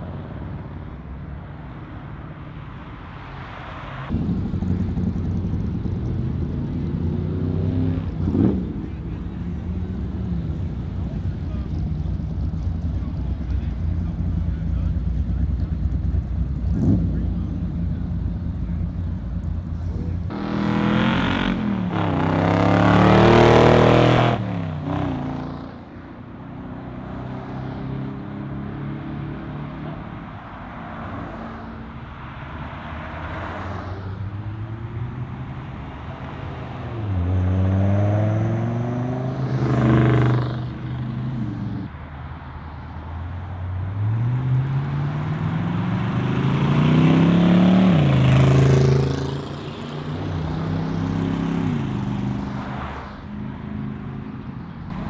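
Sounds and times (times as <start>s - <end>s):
muscle car engines revving: 2.8s - 55.0s.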